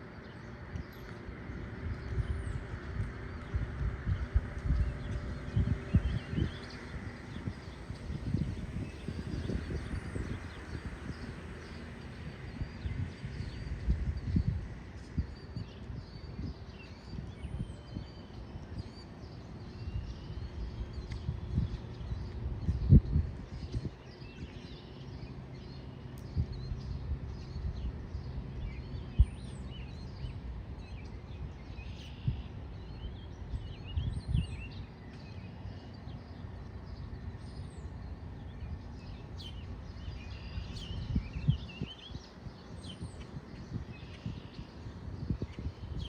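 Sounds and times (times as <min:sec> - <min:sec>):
low outdoor rumble: 0:00.0 - 0:46.0.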